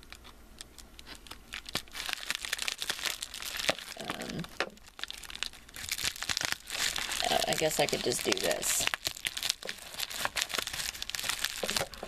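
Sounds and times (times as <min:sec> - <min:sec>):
plastic envelope crinkling: 0:00.0 - 0:12.0.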